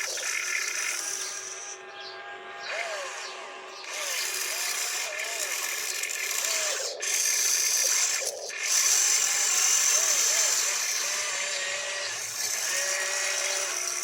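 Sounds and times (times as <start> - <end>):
toy motor whirring and grinding: 0.0 - 14.0.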